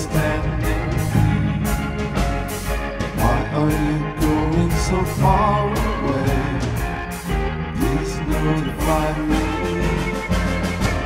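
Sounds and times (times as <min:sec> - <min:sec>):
band playing pop instrumental: 0:00.0 - 0:11.0.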